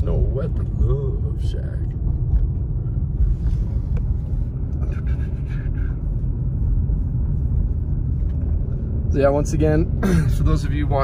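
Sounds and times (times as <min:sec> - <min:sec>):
car road rumble from inside: 0:00.0 - 0:11.0.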